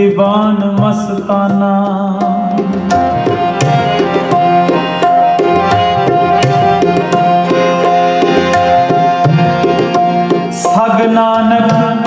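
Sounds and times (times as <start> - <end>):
tabla playing: 0.0 - 12.0
held melody notes: 2.0 - 12.0.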